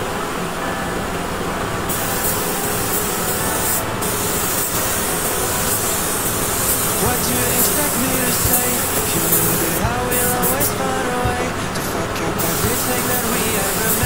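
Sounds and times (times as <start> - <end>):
spray gun air hissing: 1.9 - 11.8, 12.4 - 14.0.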